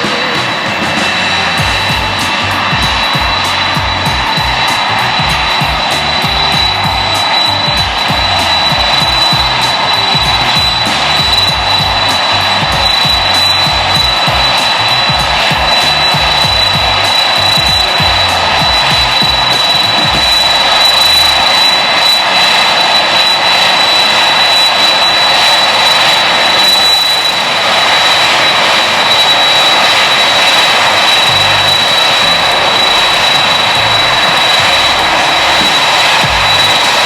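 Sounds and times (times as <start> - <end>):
high steady engine whine: 0.0 - 37.0
jet engines roaring: 0.0 - 37.0.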